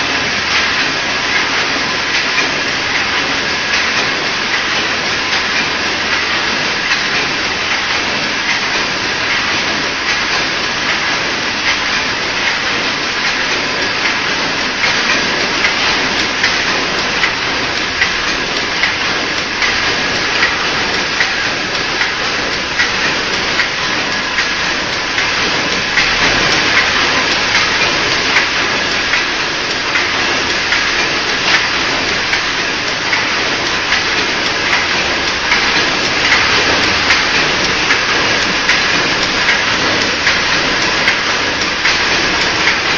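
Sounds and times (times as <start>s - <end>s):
sharp machine clacks: 0.0s - 42.9s.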